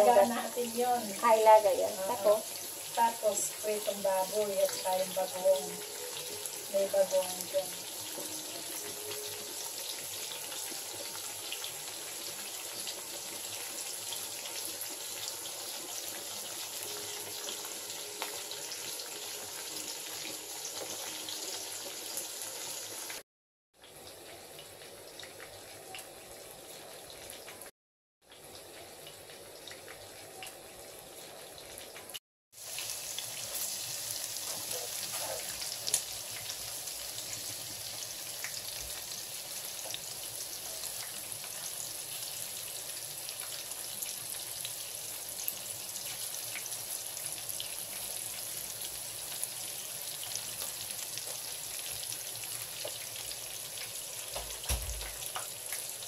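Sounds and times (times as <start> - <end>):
garlic frying in oil: 0.0 - 23.2, 23.8 - 56.0
pork sizzling in oil: 0.0 - 23.2, 23.8 - 56.0.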